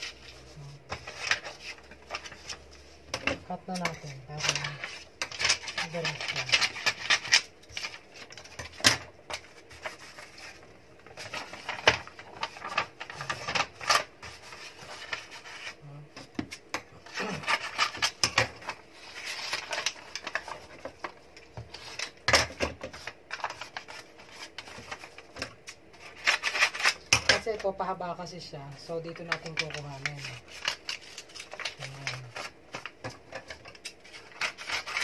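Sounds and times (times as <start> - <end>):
wrapping paper rustling and crinkling: 0.0 - 15.8, 16.5 - 27.8, 28.7 - 35.0.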